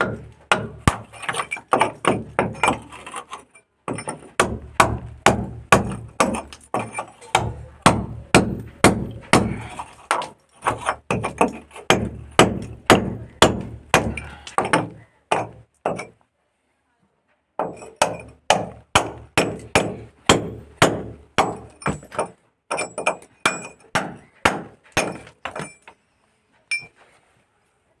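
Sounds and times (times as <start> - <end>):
hammer striking steel chisel: 0.0 - 16.2, 17.6 - 25.9.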